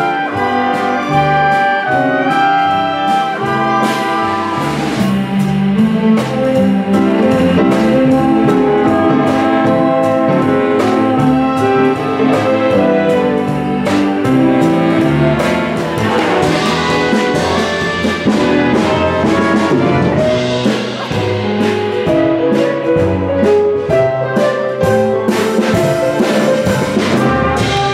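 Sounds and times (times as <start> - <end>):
jazzy brass band music: 0.0 - 27.9.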